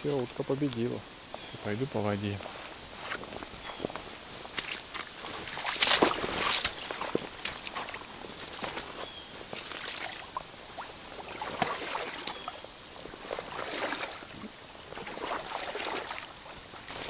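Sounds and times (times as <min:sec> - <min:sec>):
person wading through water: 0:02.5 - 0:17.0.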